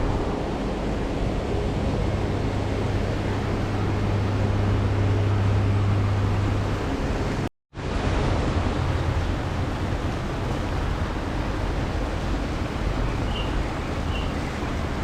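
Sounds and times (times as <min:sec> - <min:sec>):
low electrical hum: 0:00.0 - 0:15.0
steady rushing noise: 0:00.0 - 0:15.0.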